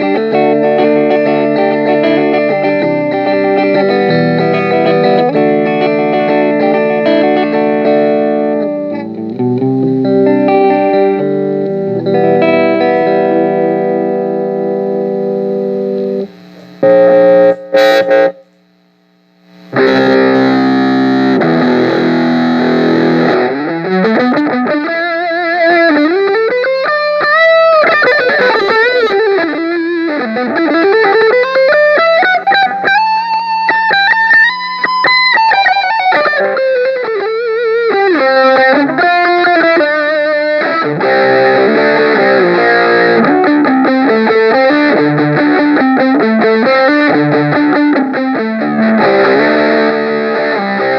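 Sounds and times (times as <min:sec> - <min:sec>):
distorted electric guitar: 0:00.0 - 0:50.9.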